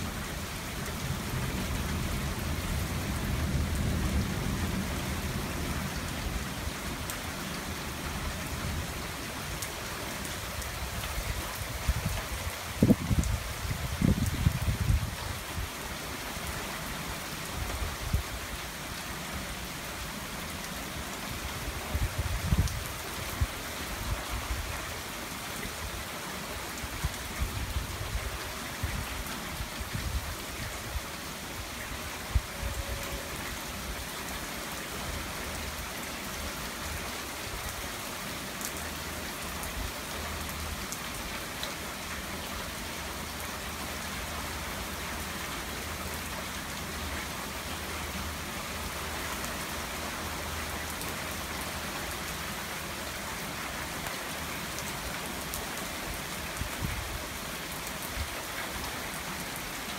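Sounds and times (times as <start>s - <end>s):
rain splattering on the ground: 0.0s - 59.9s.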